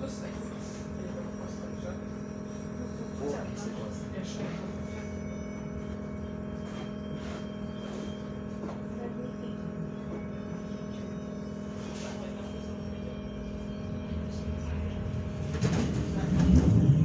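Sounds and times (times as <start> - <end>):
trolleybus electrical hum: 0.0 - 17.0.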